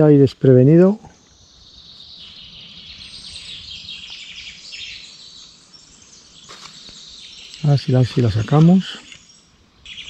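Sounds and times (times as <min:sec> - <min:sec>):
songbirds twittering: 0:00.0 - 0:10.0.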